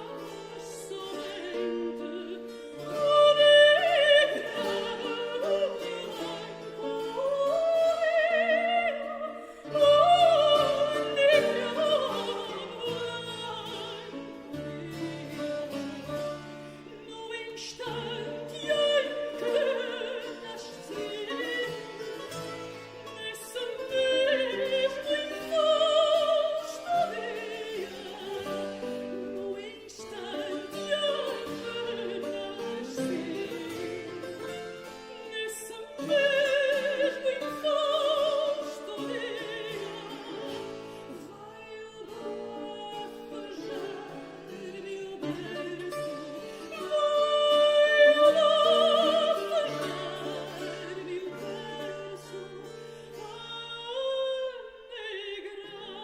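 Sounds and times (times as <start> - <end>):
classical singer with vibrato: 0.0 - 56.0.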